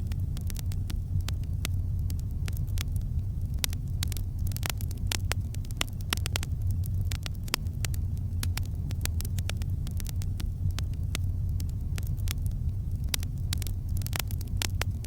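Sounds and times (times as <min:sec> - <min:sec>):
campfire crackling and popping: 0:00.0 - 0:15.0
steady low rumble: 0:00.0 - 0:15.0.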